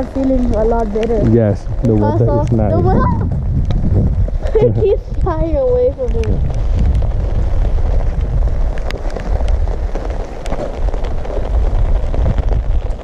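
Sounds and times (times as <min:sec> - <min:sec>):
raindrops tapping on umbrella: 0:00.0 - 0:13.0
wind buffeting microphone: 0:00.0 - 0:13.0.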